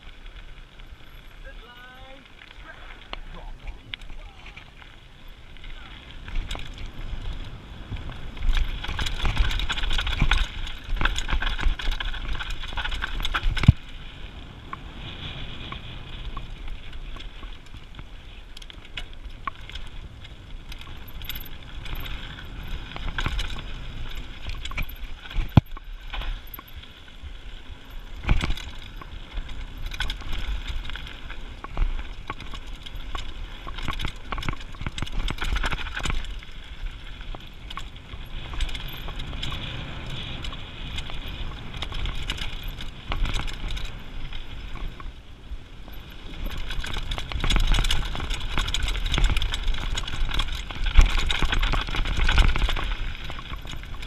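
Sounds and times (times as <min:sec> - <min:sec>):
bike chain and frame rattling: 0:00.0 - 0:54.0
bike tyres crunching over gravel: 0:00.0 - 0:54.0.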